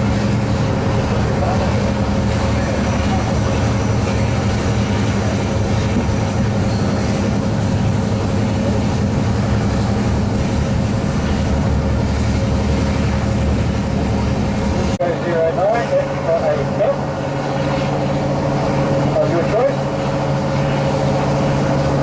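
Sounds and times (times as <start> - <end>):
diesel locomotive engine drone: 0.0 - 22.0
steady whine: 0.0 - 22.0.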